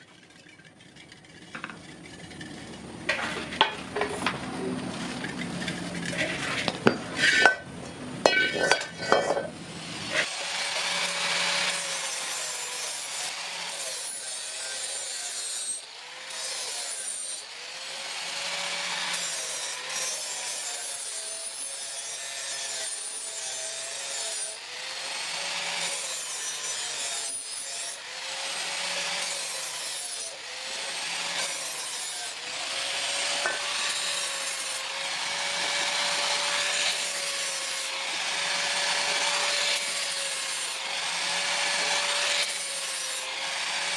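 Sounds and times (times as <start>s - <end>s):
metal rasping strokes: 0.0s - 17.5s, 25.5s - 43.9s.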